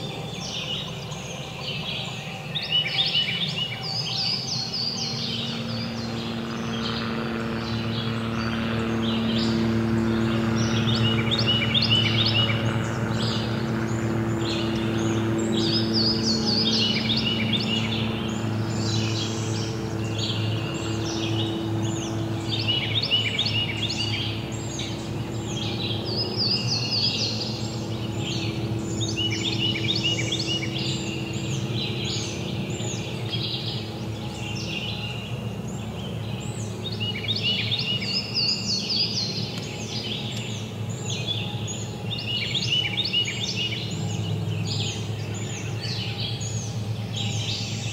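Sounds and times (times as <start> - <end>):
low steady hum: 0.0 - 47.9
songbirds singing and chirping: 0.0 - 47.9.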